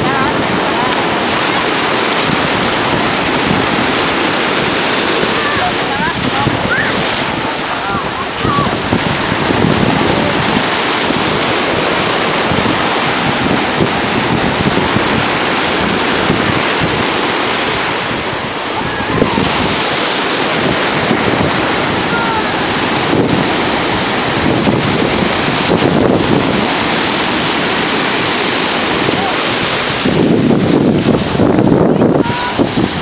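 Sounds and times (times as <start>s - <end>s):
ocean waves breaking: 0.0s - 33.0s
wind buffeting microphone: 0.0s - 33.0s.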